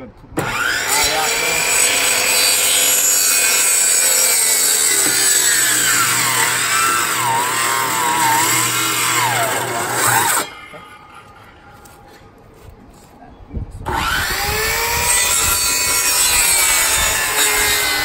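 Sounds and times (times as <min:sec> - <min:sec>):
circular saw cutting wood: 0:00.4 - 0:11.4, 0:13.9 - 0:18.0.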